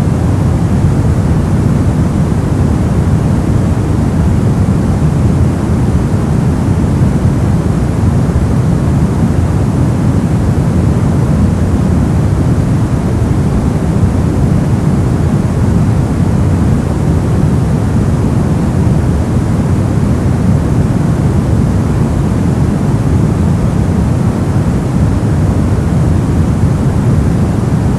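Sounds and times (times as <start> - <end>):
brown noise: 0.0 - 27.9.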